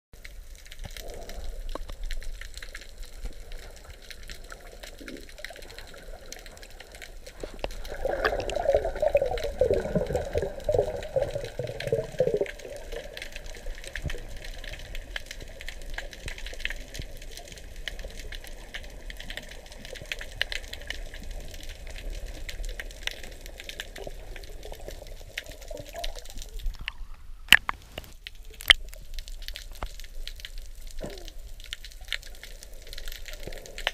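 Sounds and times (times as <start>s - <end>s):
muffled underwater sloshing and bubbling: 0.2s - 33.9s.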